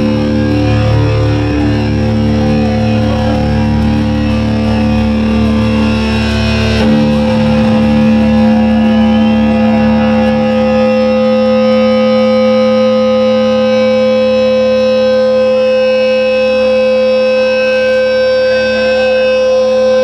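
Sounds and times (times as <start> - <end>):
distorted electric guitars ringing: 0.0 - 20.0
pulsing low end: 0.0 - 20.0.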